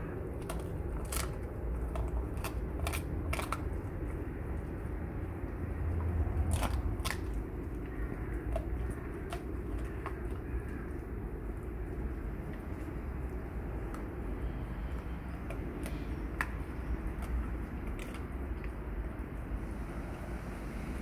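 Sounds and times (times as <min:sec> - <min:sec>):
dog crunching bones: 0:00.0 - 0:19.5
low background rumble: 0:00.0 - 0:21.0.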